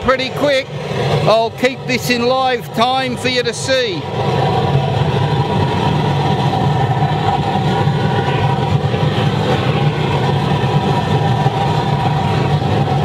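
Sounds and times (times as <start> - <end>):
burner flame roaring: 0.0 - 13.0.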